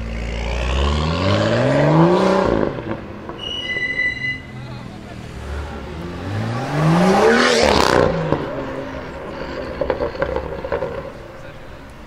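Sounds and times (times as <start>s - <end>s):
car engine accelerating hard: 0.0s - 3.4s, 4.7s - 11.6s.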